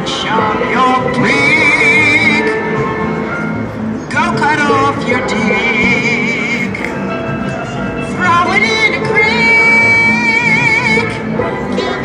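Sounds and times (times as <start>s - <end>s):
backing music: 0.0s - 12.0s.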